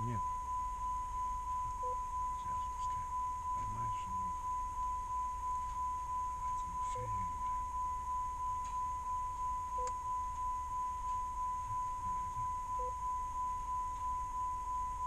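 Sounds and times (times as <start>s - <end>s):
car warning chime beeping: 0.0s - 15.0s.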